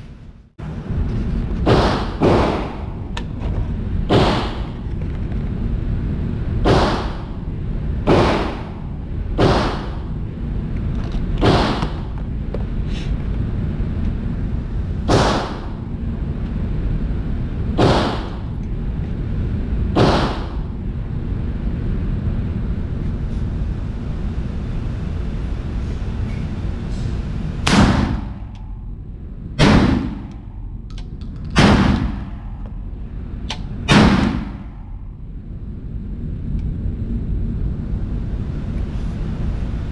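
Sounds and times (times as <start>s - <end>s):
steady background noise: 0.0s - 39.9s.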